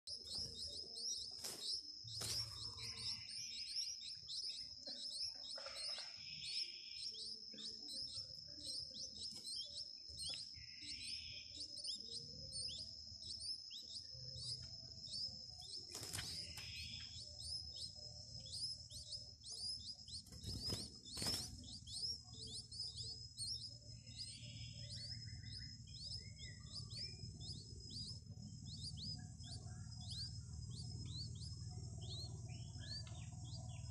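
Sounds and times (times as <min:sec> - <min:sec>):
nestlings chirping: 0:00.0 - 0:33.9.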